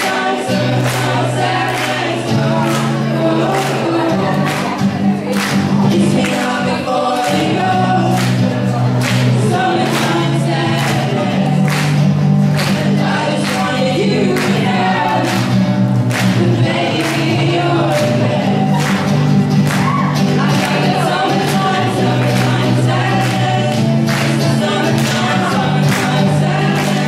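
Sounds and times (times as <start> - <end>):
strummed acoustic guitar: 0.0 - 27.0
young voices singing together: 0.0 - 27.0.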